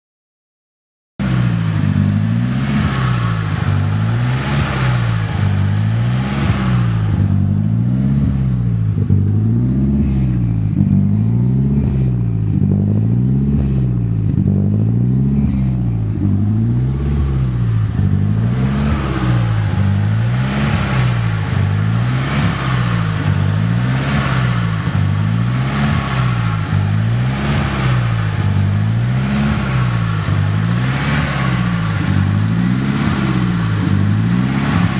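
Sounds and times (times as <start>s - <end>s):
car engine rough idling: 1.2s - 34.9s.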